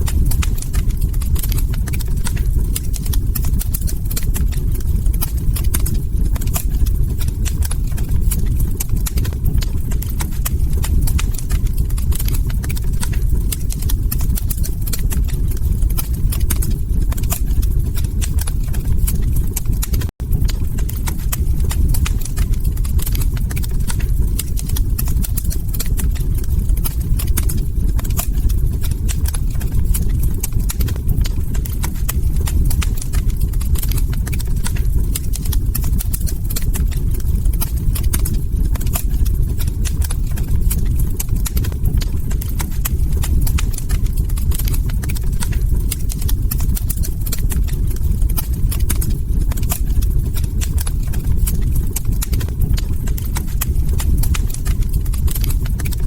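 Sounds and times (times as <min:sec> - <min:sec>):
log fire crackling: 0:00.0 - 0:56.0
low rumble: 0:00.0 - 0:56.0.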